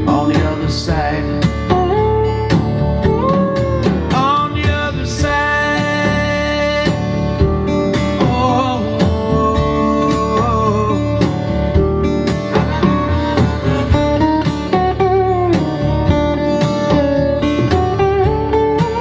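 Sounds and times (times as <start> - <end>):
bass: 0.0 - 19.0
guitar lead with bending notes: 0.0 - 19.0
steady drum beat: 0.0 - 19.0
strummed guitar: 0.0 - 19.0.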